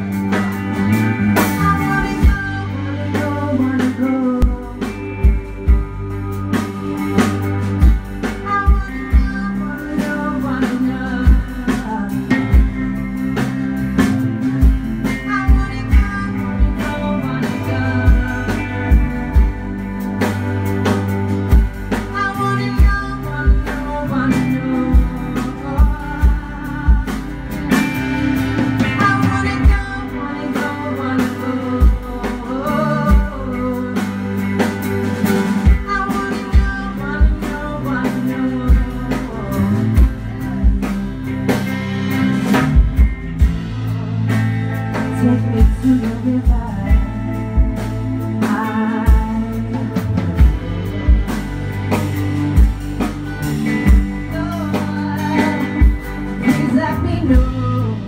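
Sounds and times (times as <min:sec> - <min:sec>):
woman singing: 0:00.0 - 0:43.0, 0:44.8 - 0:58.0
blues-rock band playing: 0:00.0 - 0:58.0.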